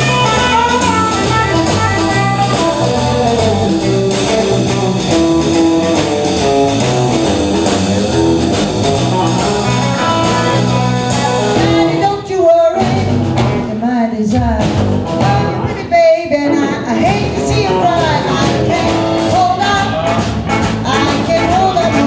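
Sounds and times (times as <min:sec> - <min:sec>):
bass line: 0:00.0 - 0:12.2, 0:12.8 - 0:15.9, 0:16.5 - 0:22.0
plucked guitar melody: 0:00.0 - 0:13.8, 0:14.5 - 0:22.0
drum kit beat: 0:00.0 - 0:22.0.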